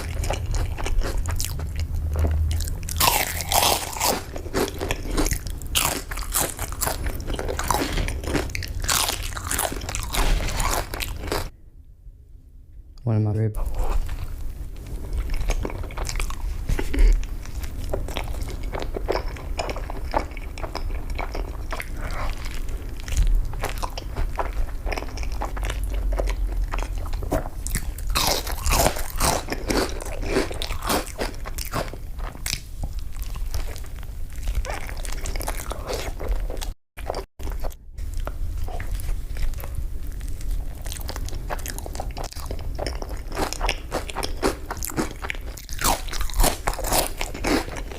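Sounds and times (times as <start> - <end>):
person crunching and chewing food: 0.0 - 11.5, 13.6 - 47.9.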